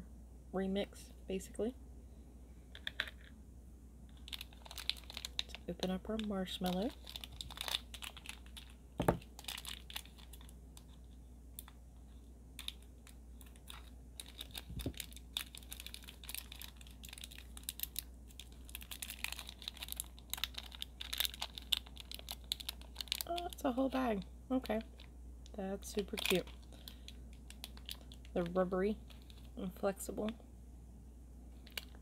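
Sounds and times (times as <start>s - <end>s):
plastic packet crinkling: 4.1s - 11.8s, 12.6s - 30.3s, 31.6s - 32.0s.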